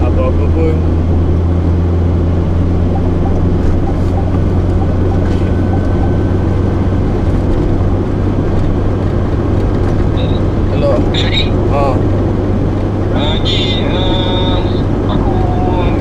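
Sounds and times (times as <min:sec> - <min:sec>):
road noise: 0:00.0 - 0:16.0
vehicle engine hum: 0:00.0 - 0:16.0.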